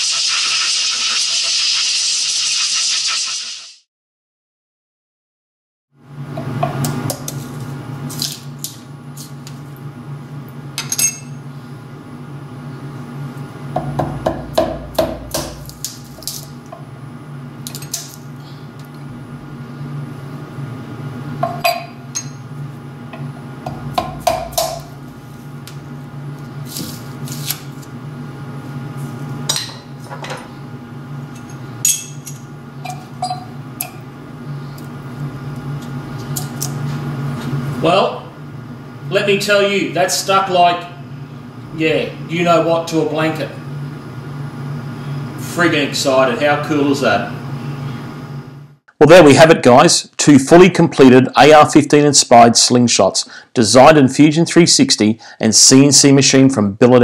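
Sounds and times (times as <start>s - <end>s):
low machine hum: 6.0s - 56.1s.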